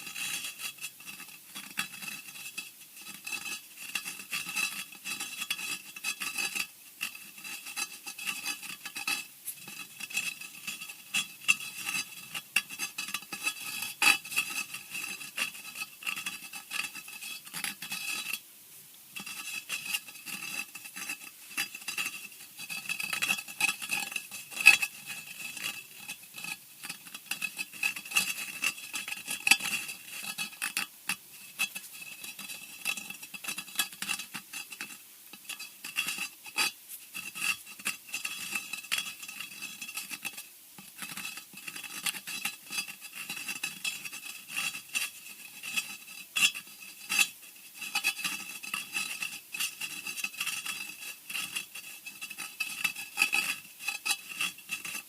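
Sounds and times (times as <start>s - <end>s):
scratching and scraping: 0.0s - 18.4s, 19.2s - 55.0s.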